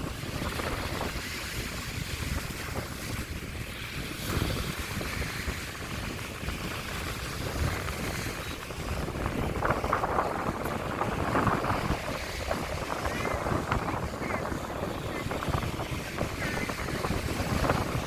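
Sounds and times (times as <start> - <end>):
sea waves breaking: 0.0 - 18.0
wind buffeting microphone: 0.0 - 18.0.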